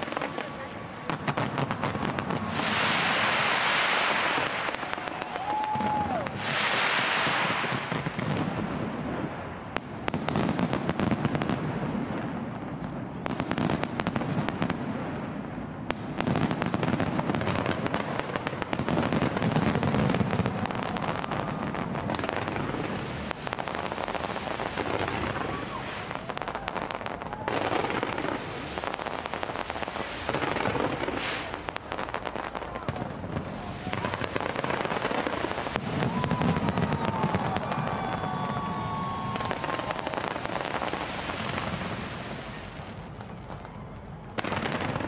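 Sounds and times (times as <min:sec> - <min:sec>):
fireworks crackling and banging: 0:00.0 - 0:45.0.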